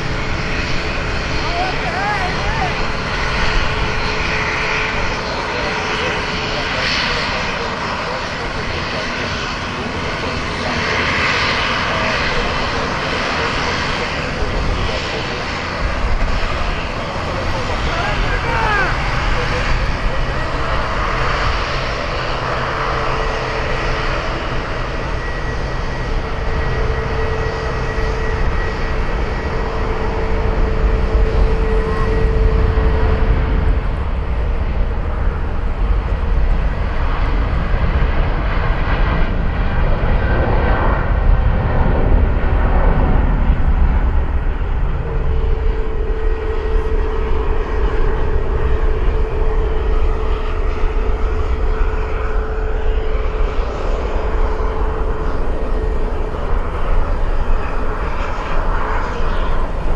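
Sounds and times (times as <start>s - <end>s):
jet engines at takeoff power: 0.0s - 59.9s.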